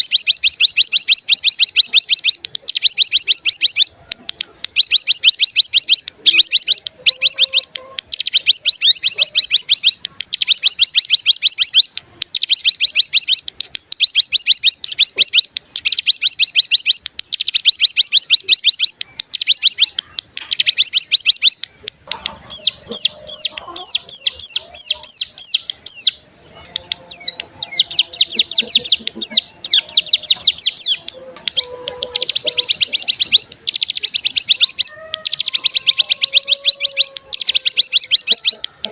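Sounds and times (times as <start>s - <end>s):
songbird rattling trill: 0.0s - 38.9s.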